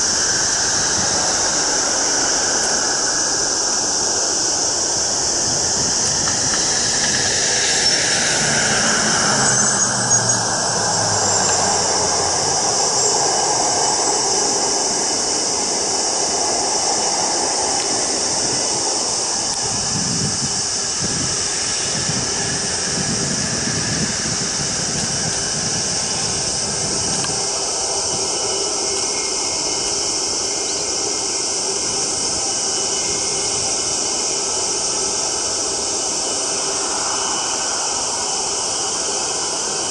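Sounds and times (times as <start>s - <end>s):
jet engine low rumble: 0.0s - 39.9s
jet engine whine: 0.0s - 39.9s.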